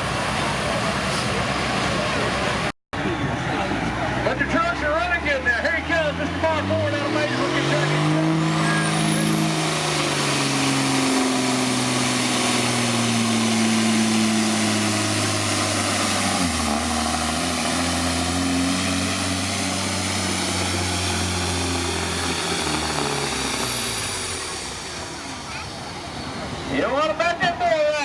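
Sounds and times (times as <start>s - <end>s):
diesel truck engine at full throttle: 0.0s - 27.8s.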